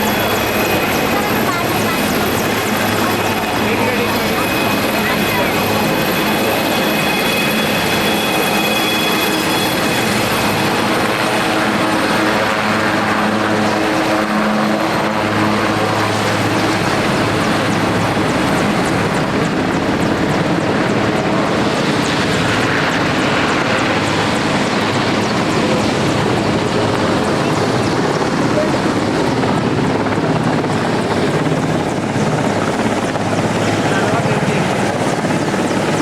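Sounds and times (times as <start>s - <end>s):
helicopter rotor and engine: 0.0s - 36.0s.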